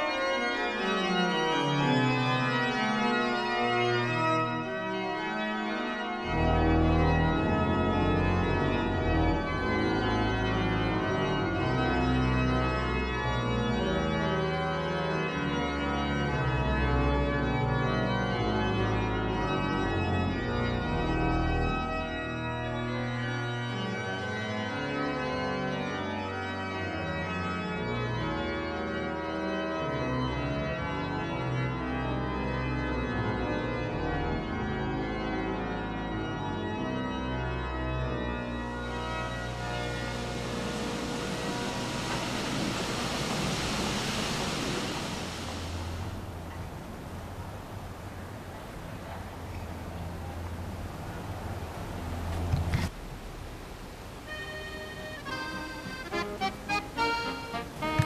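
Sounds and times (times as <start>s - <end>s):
organ music: 0.0s - 47.4s, 54.1s - 58.0s.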